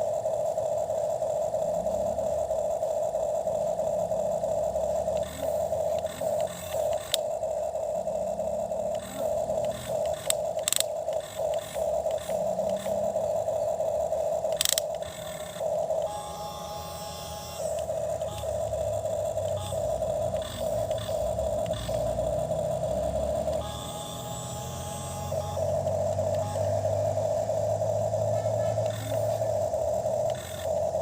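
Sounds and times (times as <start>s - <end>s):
toy electric motor whining: 0.0s - 31.0s.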